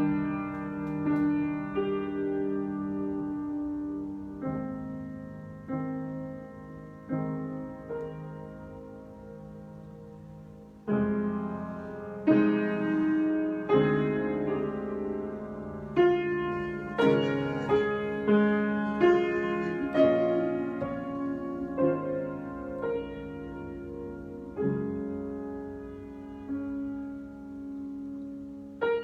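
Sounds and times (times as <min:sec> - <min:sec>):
slow piano chords: 0:00.0 - 0:29.0.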